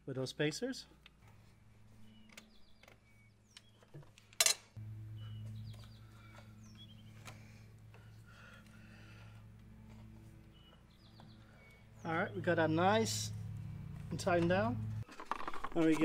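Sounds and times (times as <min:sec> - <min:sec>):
low steady hum: 0:00.8 - 0:15.1
small birds chirping: 0:00.9 - 0:04.3, 0:05.0 - 0:14.4.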